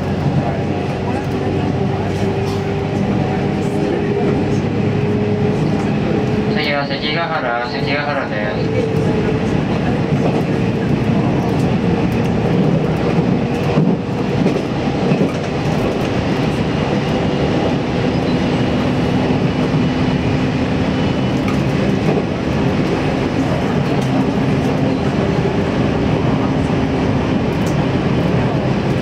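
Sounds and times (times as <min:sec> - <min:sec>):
clickety-clack of rails: 0:00.0 - 0:29.0
train wheels rumbling on rail: 0:00.0 - 0:29.0.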